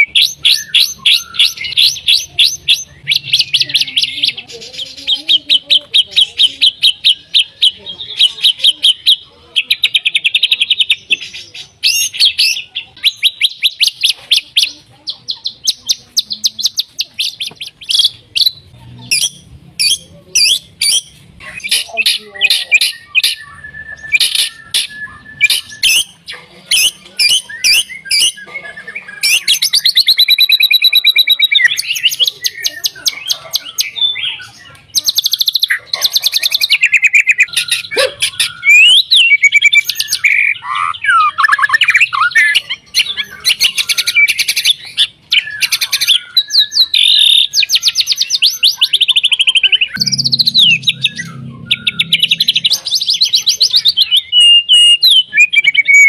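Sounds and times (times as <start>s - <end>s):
songbird singing trills and whistles: 0.0s - 56.0s.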